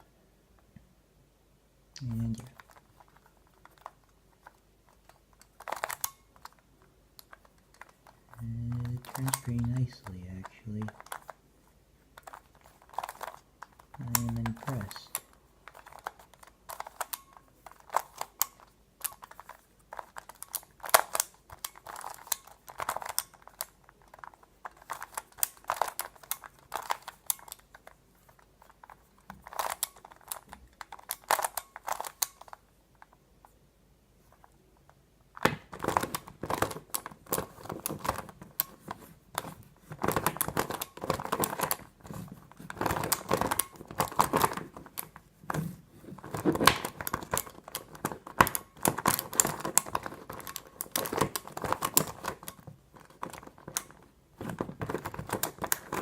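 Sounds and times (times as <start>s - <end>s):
puzzle pieces clicking and rattling: 2.3s - 6.6s, 7.3s - 11.3s, 12.2s - 32.5s, 35.7s - 56.0s.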